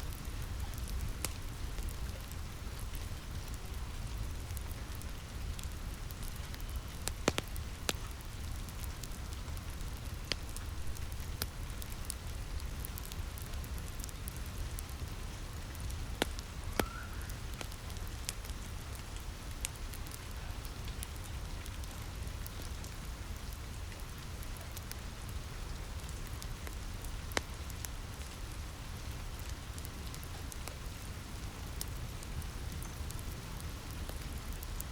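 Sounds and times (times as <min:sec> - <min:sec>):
fire popping: 0:00.0 - 0:34.9
rain on a roof: 0:00.0 - 0:34.9
wood fire crackling: 0:00.0 - 0:34.9.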